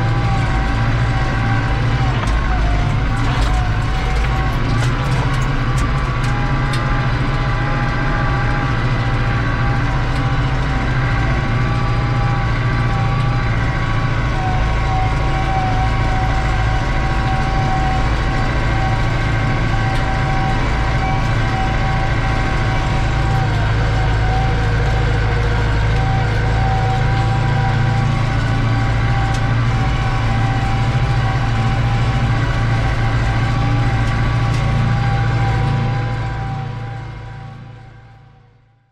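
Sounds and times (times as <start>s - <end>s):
tractor diesel engine drone: 0.0s - 38.9s.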